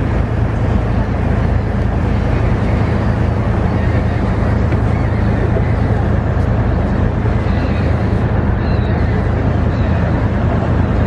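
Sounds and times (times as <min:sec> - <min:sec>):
boat engine drone: 0:00.0 - 0:11.0
water wash: 0:00.0 - 0:11.0
wind noise: 0:00.0 - 0:11.0.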